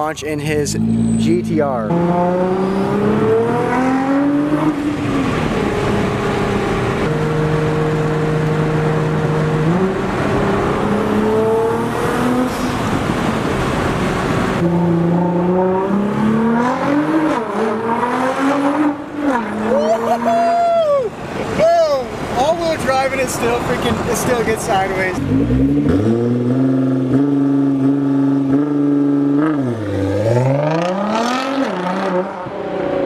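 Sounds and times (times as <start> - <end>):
car engine accelerating hard: 0.7 - 20.5, 23.1 - 33.0.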